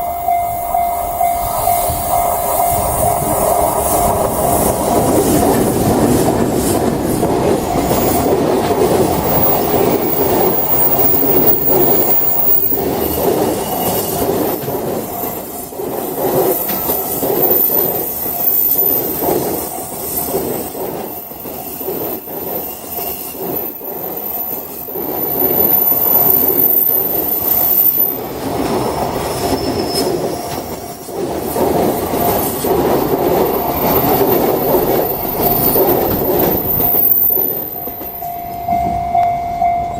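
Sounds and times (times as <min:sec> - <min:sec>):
freight train wheels rumbling and clattering: 0:00.0 - 0:39.9.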